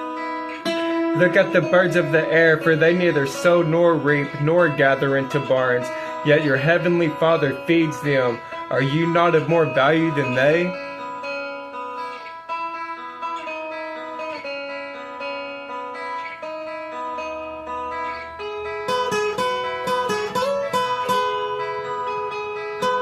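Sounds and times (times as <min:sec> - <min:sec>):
plucked guitar music: 0:00.0 - 0:23.0.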